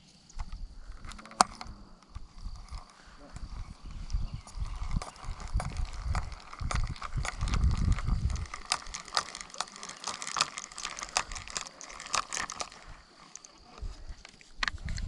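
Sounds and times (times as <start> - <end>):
handling clicks and crinkling rustle: 0.0 - 15.0.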